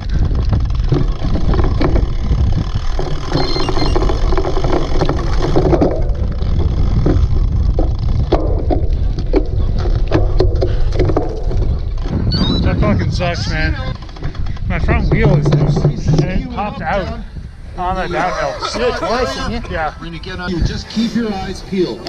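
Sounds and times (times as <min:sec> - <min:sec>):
bike rattling over rough ground: 0:00.0 - 0:22.0
wind rumble on microphone: 0:00.0 - 0:22.0.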